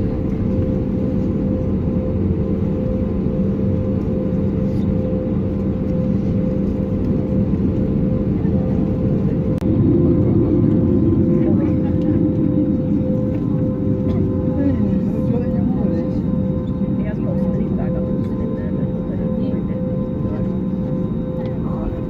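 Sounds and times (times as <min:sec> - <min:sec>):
airplane cabin engine hum: 0:00.0 - 0:22.0.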